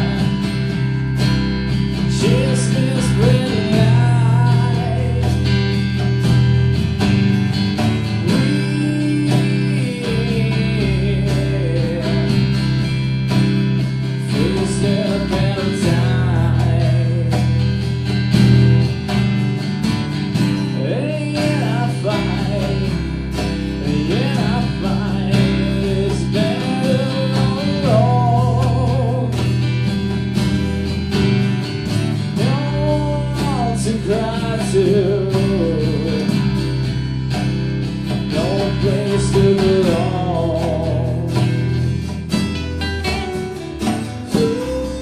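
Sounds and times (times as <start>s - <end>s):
acoustic guitars strummed: 0.0s - 45.0s
steady low bass: 0.0s - 45.0s.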